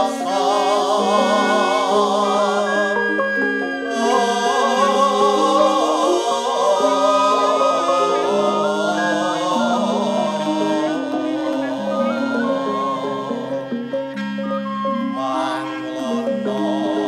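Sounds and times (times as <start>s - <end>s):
ringing gamelan bronze notes: 0.0s - 17.0s
voices singing slow melody: 0.0s - 17.0s.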